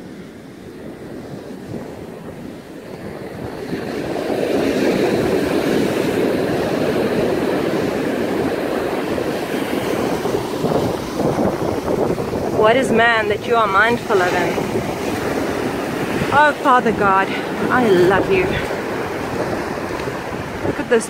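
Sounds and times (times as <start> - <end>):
ocean surf washing in: 0.0 - 21.0
wind buffeting microphone: 0.0 - 21.0.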